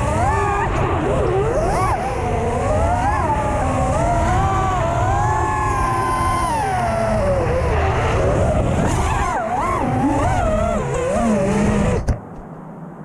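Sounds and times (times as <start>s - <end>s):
quadcopter motors whining: 0.0s - 12.2s.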